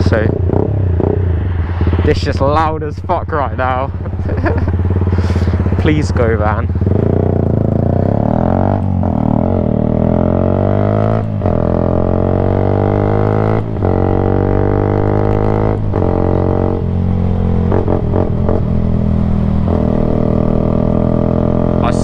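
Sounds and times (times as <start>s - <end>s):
loud motorcycle engine drone: 0.0s - 22.0s.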